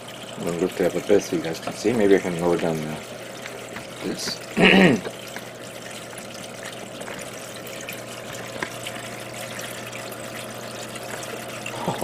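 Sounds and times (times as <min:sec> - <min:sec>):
low machine hum: 0:00.0 - 0:12.0
water trickling and splashing: 0:00.0 - 0:12.0.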